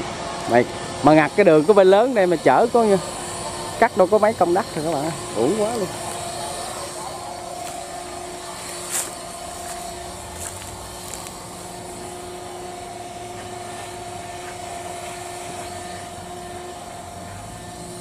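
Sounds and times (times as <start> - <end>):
diesel engine idling with whine: 0.0 - 18.0.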